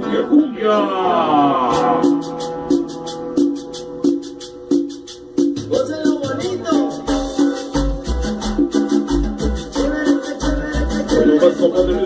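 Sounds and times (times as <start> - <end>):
cumbia music: 0.0 - 12.0.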